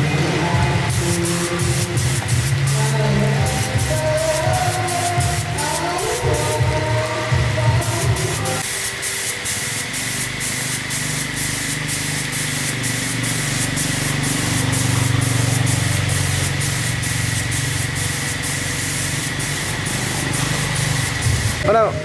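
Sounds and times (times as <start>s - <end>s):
pressurised spray hissing: 0.0s - 22.0s.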